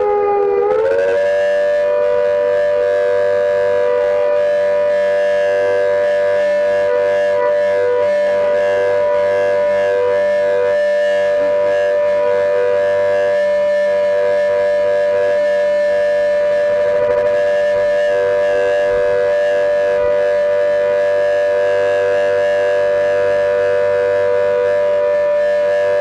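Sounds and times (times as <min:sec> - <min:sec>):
warning siren steady tone: 0:00.0 - 0:26.0.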